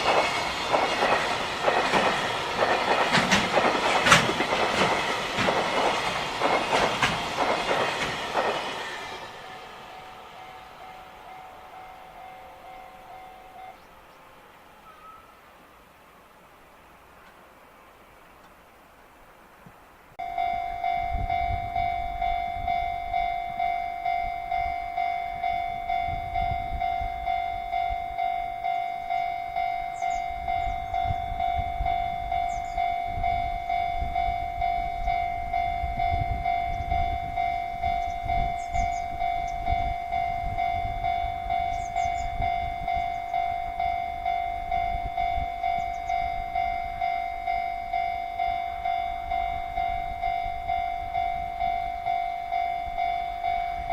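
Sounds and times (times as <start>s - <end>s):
level-crossing warning bell: 0.0s - 15.5s, 20.2s - 53.9s.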